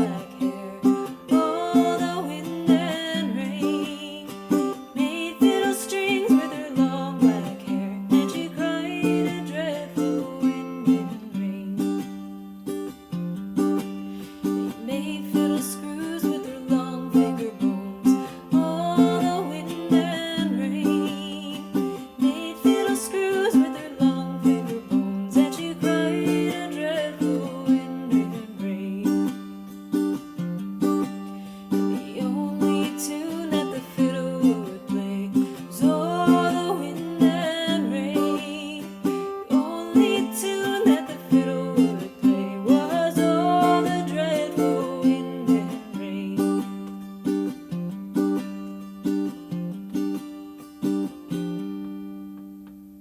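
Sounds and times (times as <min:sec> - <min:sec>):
plucked string instrument: 0:00.0 - 0:53.0.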